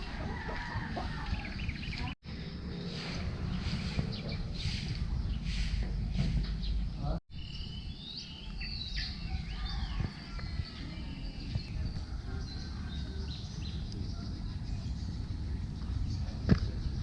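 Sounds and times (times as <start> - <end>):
birds chirping: 0.0 - 17.0
low wind rumble: 0.0 - 17.0.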